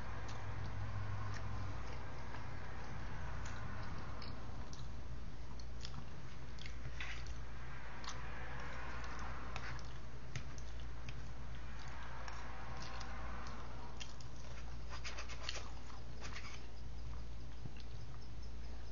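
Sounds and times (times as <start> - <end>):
person chewing food: 0.0 - 18.9
steady low hum: 0.0 - 18.9.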